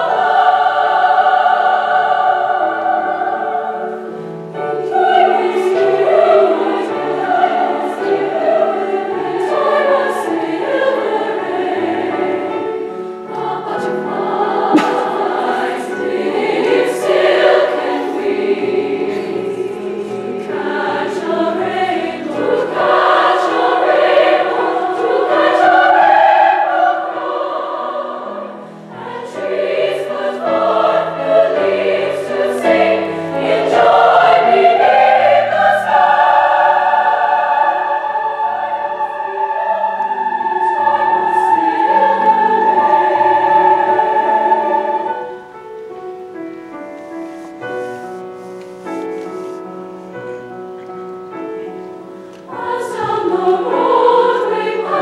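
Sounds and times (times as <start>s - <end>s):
mixed choir singing chords: 0.0s - 46.9s, 47.5s - 55.0s.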